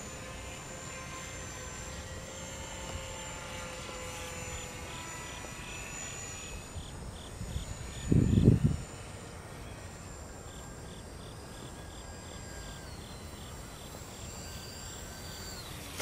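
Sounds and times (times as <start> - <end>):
model plane motors whining: 0.0 - 16.0.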